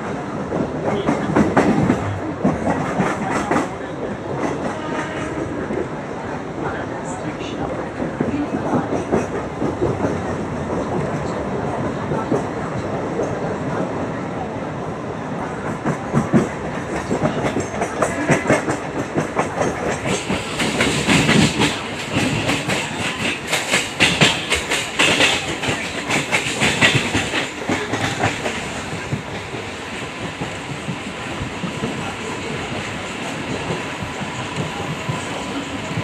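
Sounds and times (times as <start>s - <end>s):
train wheels clattering on rails: 0.0s - 6.0s, 7.5s - 13.9s, 15.4s - 36.0s.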